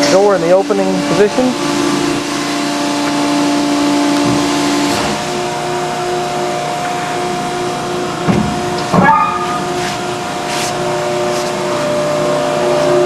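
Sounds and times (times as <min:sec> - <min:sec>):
hydraulic pump motor humming: 0:00.0 - 0:13.0
short rising whine: 0:00.0 - 0:13.0.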